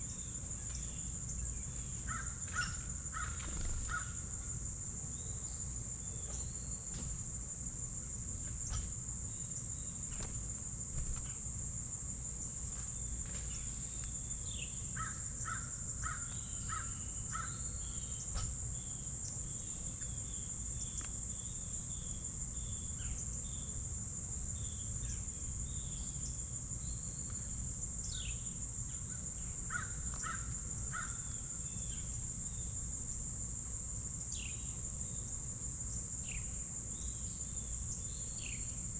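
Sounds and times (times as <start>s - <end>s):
songbirds calling: 0.0s - 7.3s, 8.1s - 23.9s, 24.5s - 32.8s, 34.1s - 38.9s
insects droning: 0.0s - 38.9s.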